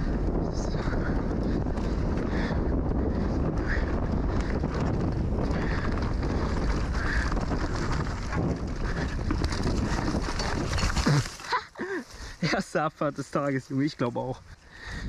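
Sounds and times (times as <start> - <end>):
wind buffeting microphone: 0.0 - 11.3, 14.2 - 15.0
bike tyres rolling on dirt: 0.0 - 15.0.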